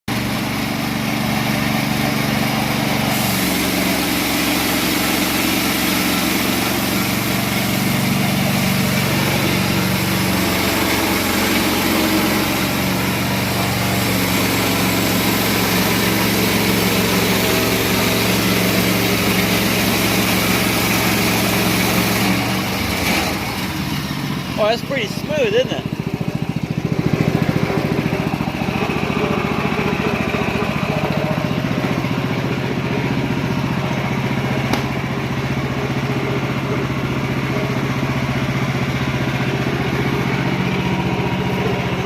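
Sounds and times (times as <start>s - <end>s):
chainsaw cutting through log: 1.6s - 42.0s.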